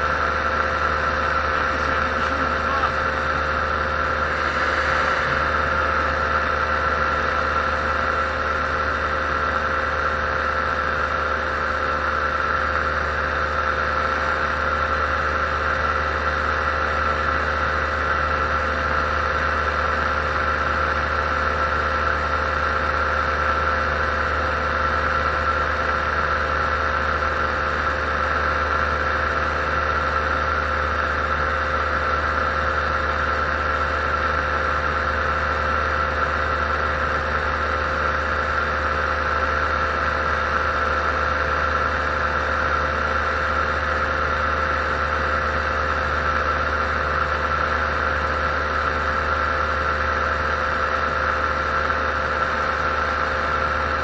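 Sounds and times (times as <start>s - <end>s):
paramotor engine droning: 0.0s - 54.0s.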